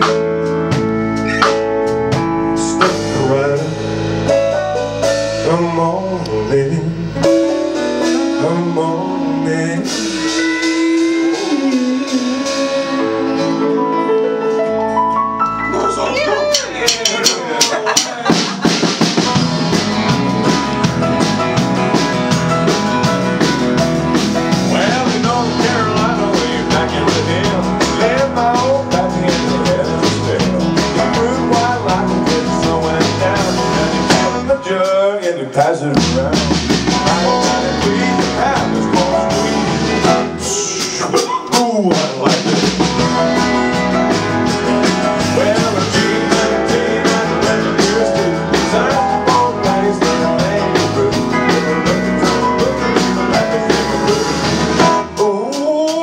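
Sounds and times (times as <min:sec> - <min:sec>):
drum kit beat: 0:00.0 - 0:14.8, 0:15.4 - 0:56.0
bass guitar: 0:00.0 - 0:56.0
country rock band playing: 0:00.0 - 0:56.0.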